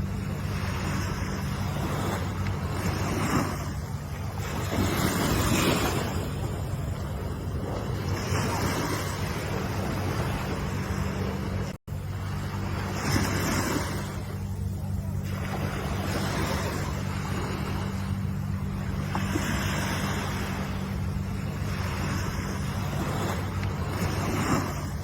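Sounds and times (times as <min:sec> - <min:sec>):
low surf rumble: 0:00.0 - 0:25.0
waves breaking and washing in: 0:00.0 - 0:25.0.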